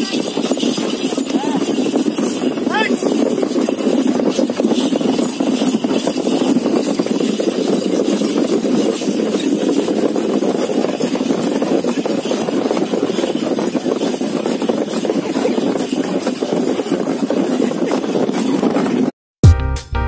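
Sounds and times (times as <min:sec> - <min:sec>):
cart rumbling and rattling: 0:00.0 - 0:19.1.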